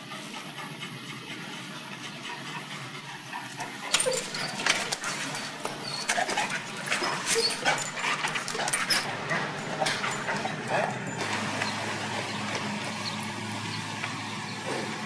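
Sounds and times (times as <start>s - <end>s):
dogs whimpering and yipping: 0.4s - 13.8s.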